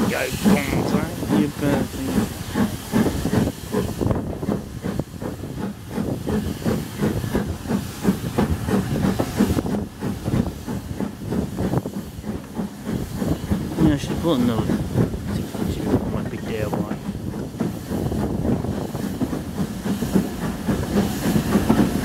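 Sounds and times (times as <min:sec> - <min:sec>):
steam train hissing and chuffing: 0:00.0 - 0:22.0.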